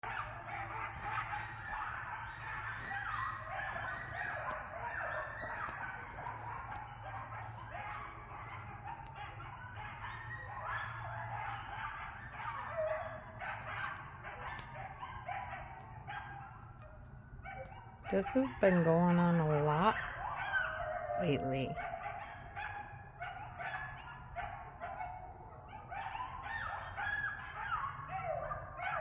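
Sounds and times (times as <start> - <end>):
coyotes yipping and howling: 0.0 - 29.0.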